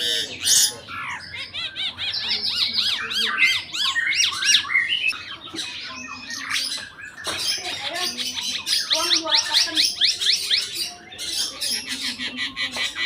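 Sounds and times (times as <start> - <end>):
bird singing chirps and whistles: 0.1 - 12.6.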